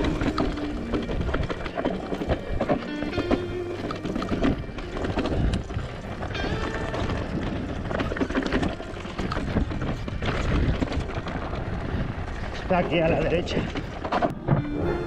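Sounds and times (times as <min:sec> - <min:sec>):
mountain bike rattling and knocking: 0:00.0 - 0:14.7
wind rumbling on microphone: 0:00.0 - 0:15.0.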